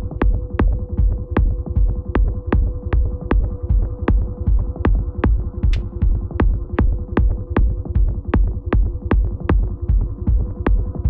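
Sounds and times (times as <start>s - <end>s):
fast kick-drum beat: 0.0s - 11.0s.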